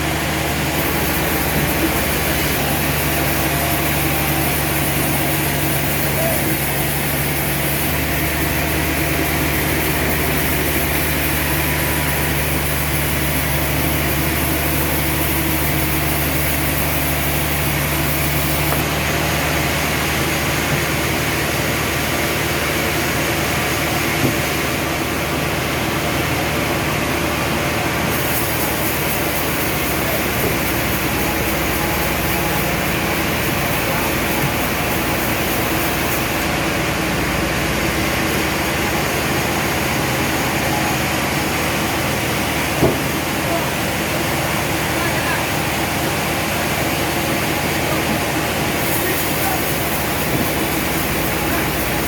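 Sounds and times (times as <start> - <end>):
sawmill machinery drone: 0.0 - 52.0.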